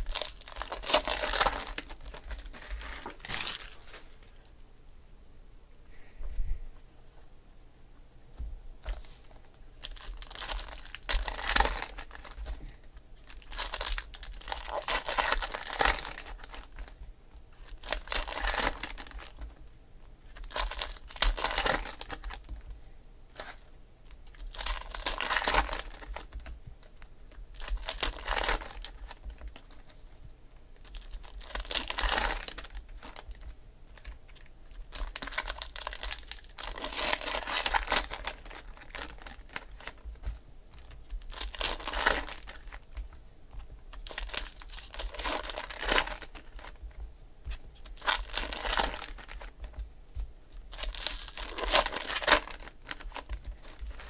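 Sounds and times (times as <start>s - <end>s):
plastic wrappers crinkling: 0.0s - 4.5s, 8.9s - 19.6s, 20.2s - 22.7s, 23.3s - 49.9s, 50.5s - 54.0s.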